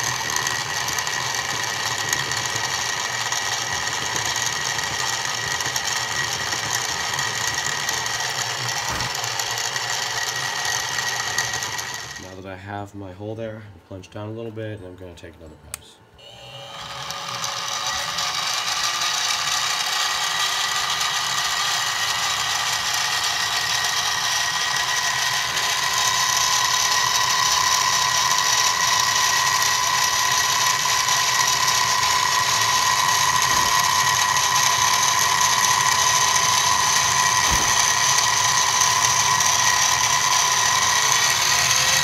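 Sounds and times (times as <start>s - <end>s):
milling machine cutting aluminium: 0.0s - 12.3s, 16.2s - 42.0s.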